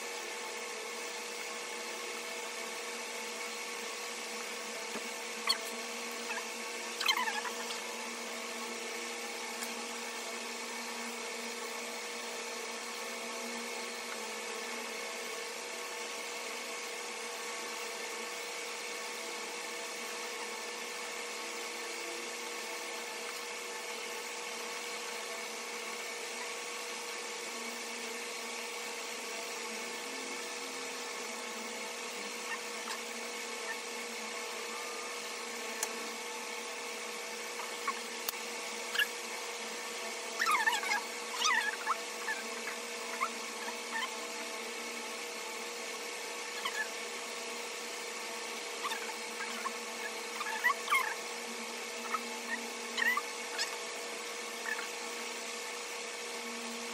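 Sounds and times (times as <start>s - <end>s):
small motor whirring hum: 0.0s - 56.9s.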